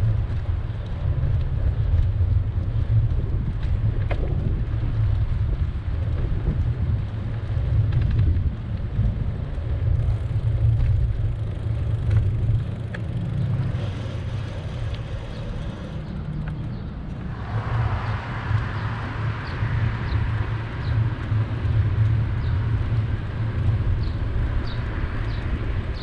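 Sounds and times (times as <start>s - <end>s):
city street traffic: 0.0s - 26.0s
wind buffeting microphone: 0.0s - 26.0s.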